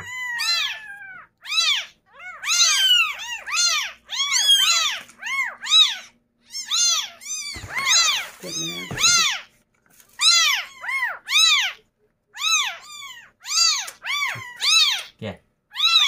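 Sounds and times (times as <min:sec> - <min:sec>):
kittens mewing: 0:00.0 - 0:16.0.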